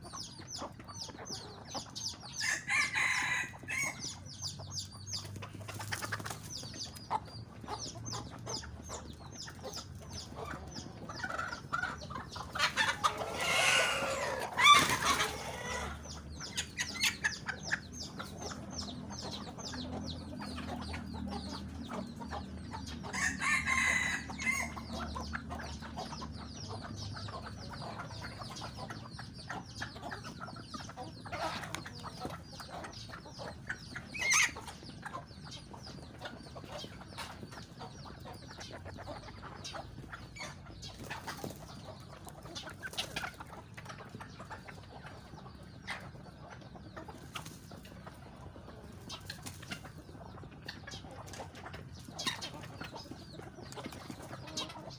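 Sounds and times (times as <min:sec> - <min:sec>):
chickens clucking: 0:00.0 - 0:54.9
chickens pecking: 0:00.0 - 0:54.9.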